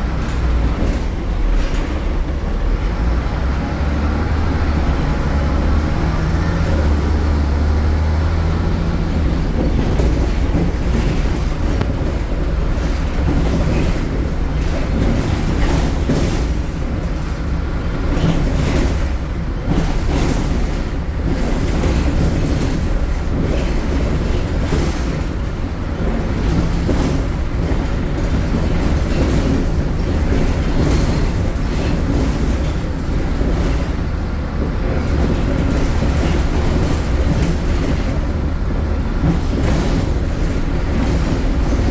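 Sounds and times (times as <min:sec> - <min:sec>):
bus body knocks and rattles: 0:00.0 - 0:41.9
bus diesel engine droning: 0:00.0 - 0:41.9.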